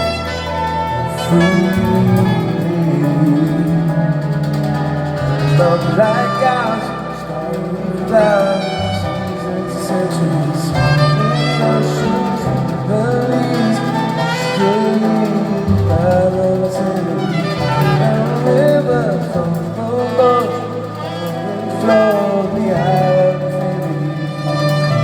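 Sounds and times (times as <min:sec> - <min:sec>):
live band playing: 0:00.0 - 0:25.0
violin melody: 0:00.0 - 0:25.0.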